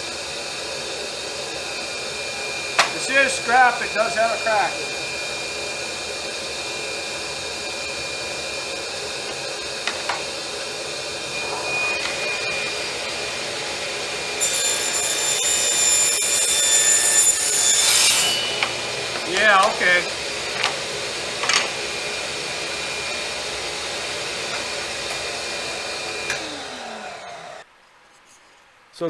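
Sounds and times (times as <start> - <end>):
saw cutting wood with high whine: 0.0 - 27.7
table saw running: 0.0 - 27.7.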